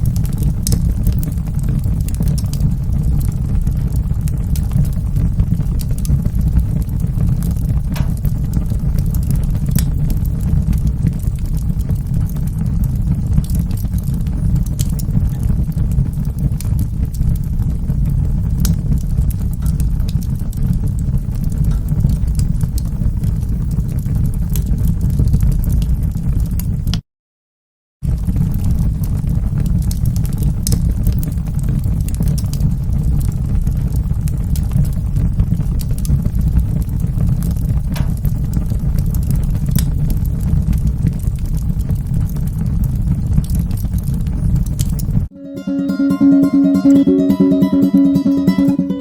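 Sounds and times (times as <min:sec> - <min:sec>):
fire crackling and popping: 0:00.0 - 0:27.0, 0:28.0 - 0:45.3
fire flames rumbling: 0:00.0 - 0:27.0, 0:28.0 - 0:45.3.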